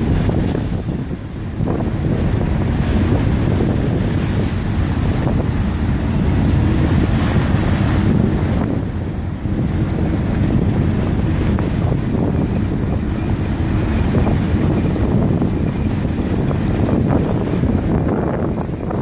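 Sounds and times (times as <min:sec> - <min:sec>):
water wash: 0:00.0 - 0:19.0
wind buffeting the microphone: 0:00.0 - 0:19.0.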